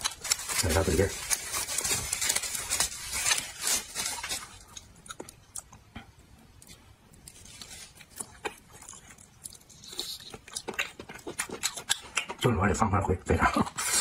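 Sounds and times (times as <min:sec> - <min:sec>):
person chewing: 0:00.0 - 0:12.4.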